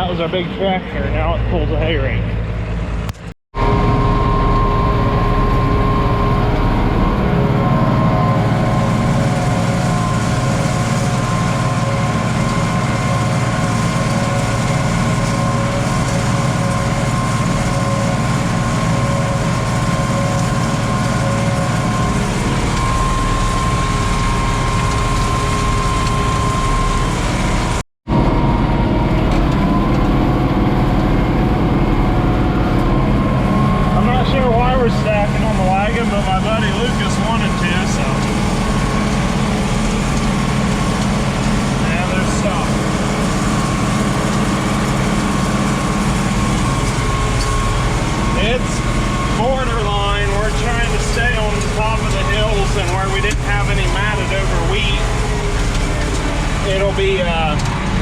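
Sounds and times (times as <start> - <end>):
steady whine: 0.0 - 58.0
tractor engine running: 0.0 - 58.0.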